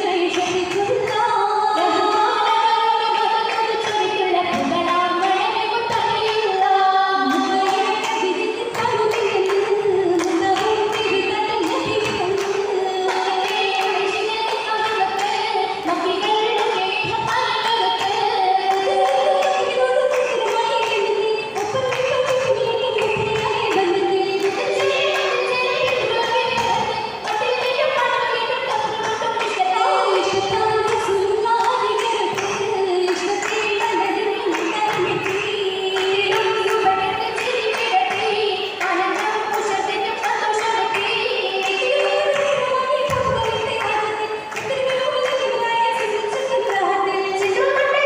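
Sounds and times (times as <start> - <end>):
girls singing in unison: 0.0 - 48.0
hand claps: 1.8 - 48.0.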